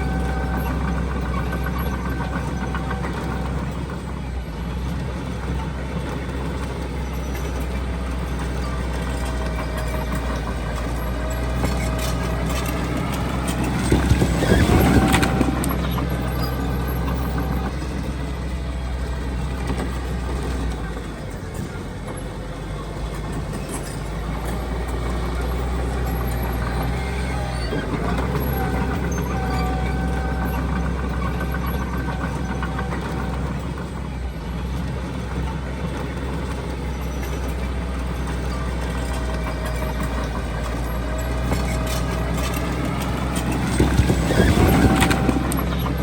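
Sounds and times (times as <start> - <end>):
diesel machinery engine drone: 0.0 - 46.0.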